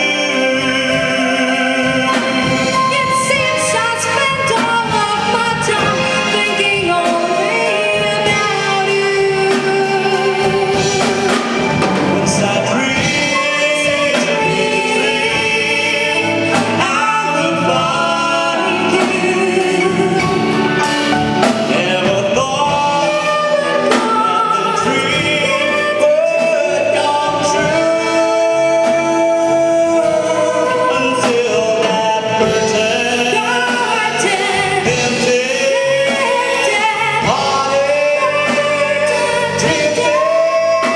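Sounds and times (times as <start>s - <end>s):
live band with singing: 0.0s - 40.9s.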